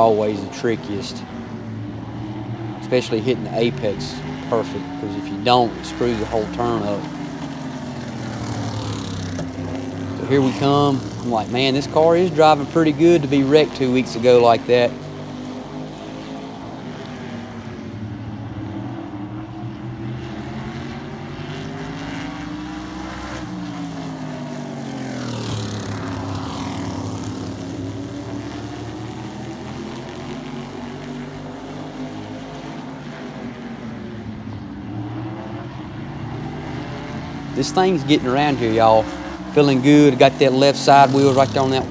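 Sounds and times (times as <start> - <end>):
race car engines at speed: 0.0 - 41.9
race car passing close by: 0.0 - 41.9.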